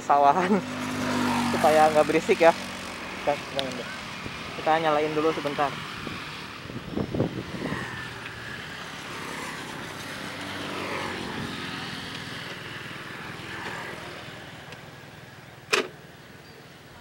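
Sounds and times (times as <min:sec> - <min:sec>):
distant traffic engine drone: 0:00.0 - 0:17.0.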